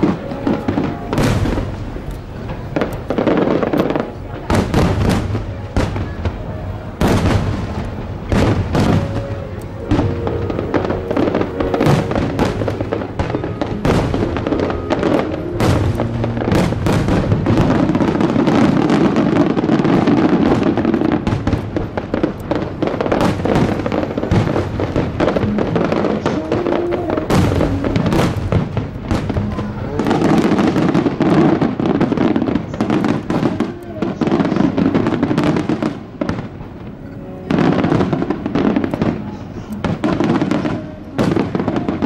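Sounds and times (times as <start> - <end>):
fireworks bangs and crackling: 0.0 - 42.0
music playing: 0.0 - 42.0.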